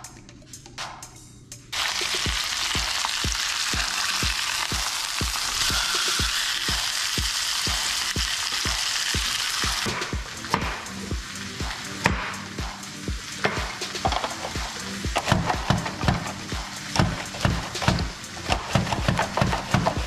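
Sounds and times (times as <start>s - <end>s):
background music beat: 0.0s - 20.0s
fish sizzling in a pan: 1.8s - 18.2s.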